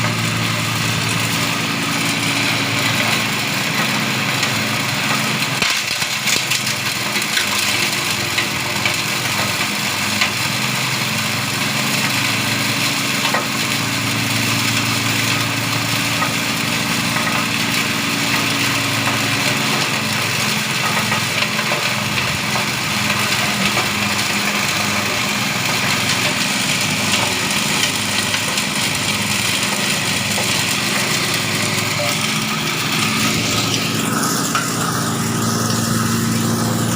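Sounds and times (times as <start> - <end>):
chopper machine grinding: 0.0 - 36.9
engine humming: 0.0 - 36.9.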